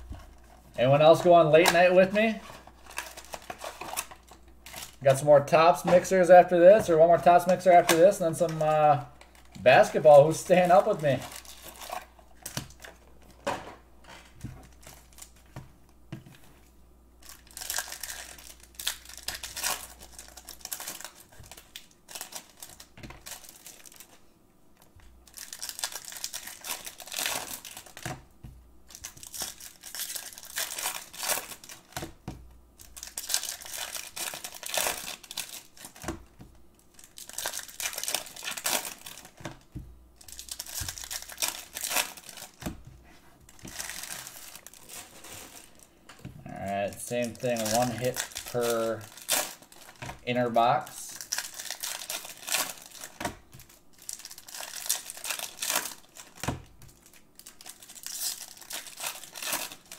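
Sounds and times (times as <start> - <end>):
foil wrappers crinkling and tearing: 0.0 - 13.4, 14.0 - 15.6, 17.2 - 24.2, 24.8 - 28.2, 28.9 - 32.1, 32.8 - 59.9.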